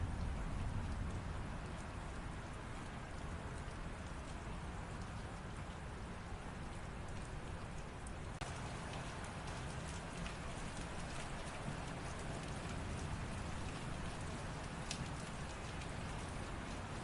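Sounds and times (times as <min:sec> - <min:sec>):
light rain falling: 0:00.0 - 0:17.0.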